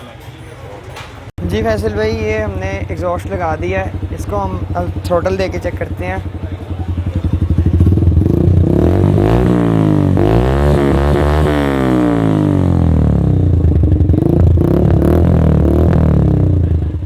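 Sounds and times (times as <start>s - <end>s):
motorcycle engine idling and revving: 1.4s - 17.0s.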